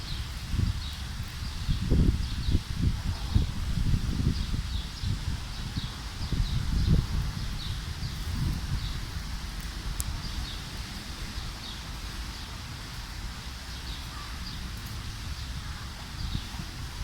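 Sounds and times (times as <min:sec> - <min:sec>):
rustling foliage: 0:00.0 - 0:17.0
wind rumbling on microphone: 0:00.0 - 0:17.0.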